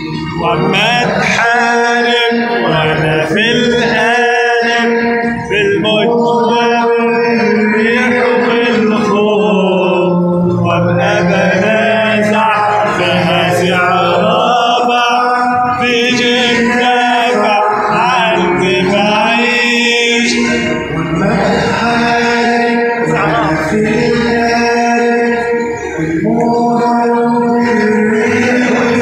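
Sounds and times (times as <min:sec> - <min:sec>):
man singing a hymn into a microphone: 0:00.0 - 0:29.0.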